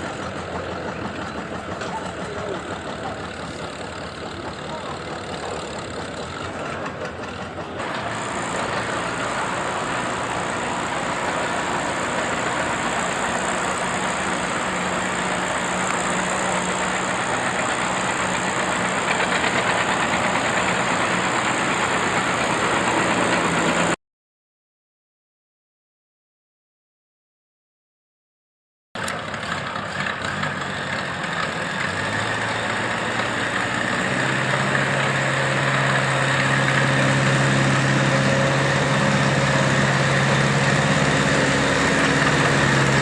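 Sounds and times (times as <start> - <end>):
tractor engine running: 0.0 - 24.0, 29.0 - 43.0.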